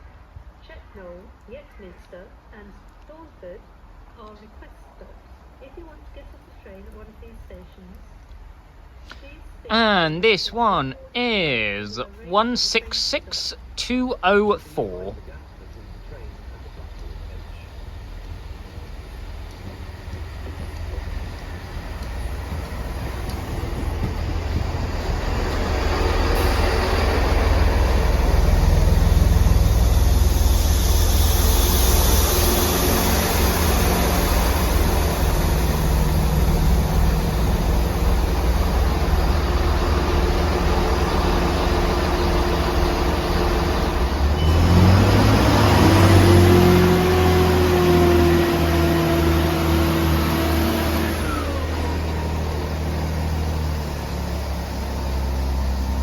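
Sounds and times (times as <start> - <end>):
train diesel engines revving: 8.5 - 56.0.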